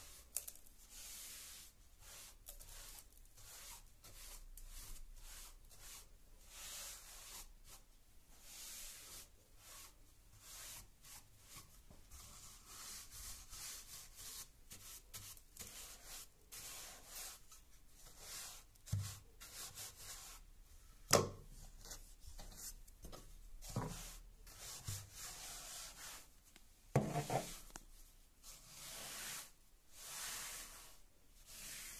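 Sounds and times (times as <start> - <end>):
brush sweeping grit on wood: 0.8 - 20.5, 23.6 - 26.3, 27.0 - 27.7, 28.4 - 31.9.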